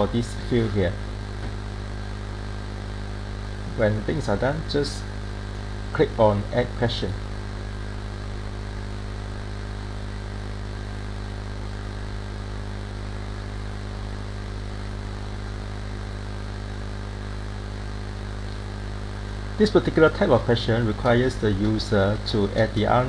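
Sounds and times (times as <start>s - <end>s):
background hiss: 0.0s - 23.0s
steady low hum: 0.0s - 23.0s.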